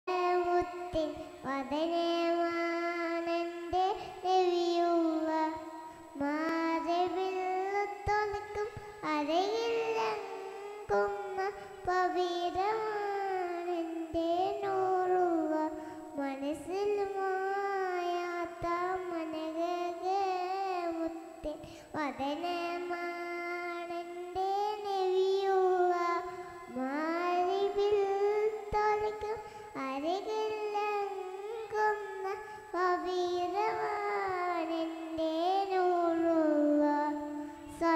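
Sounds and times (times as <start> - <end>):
girl singing into a microphone: 0.0 - 37.9.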